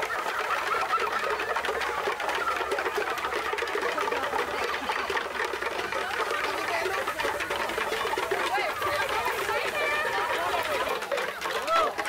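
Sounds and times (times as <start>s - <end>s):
children's voices: 0.0s - 12.0s
crowd talking and calling out: 0.0s - 12.0s
fast even clatter: 0.0s - 12.0s.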